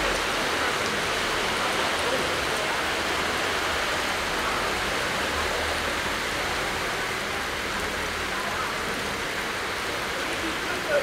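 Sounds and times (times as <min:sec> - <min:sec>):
heavy rain on a flooded street: 0:00.0 - 0:11.0.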